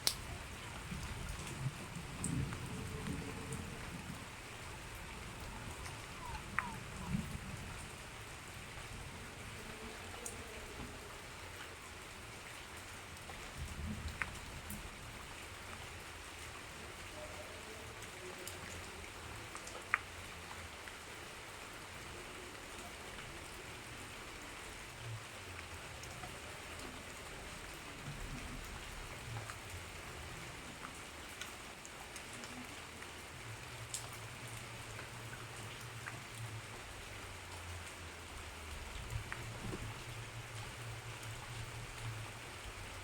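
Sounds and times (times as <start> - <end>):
rain pattering on surfaces: 0.0 - 43.0.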